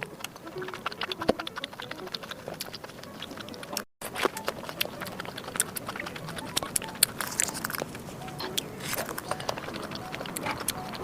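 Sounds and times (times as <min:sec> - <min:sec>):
chewing with wet mouth clicks: 0:00.0 - 0:11.0.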